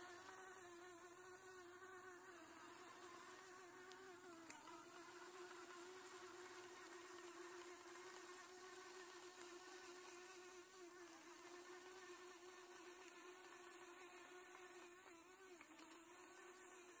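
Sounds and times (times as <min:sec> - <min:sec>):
small electric motors humming: 0:00.0 - 0:17.0.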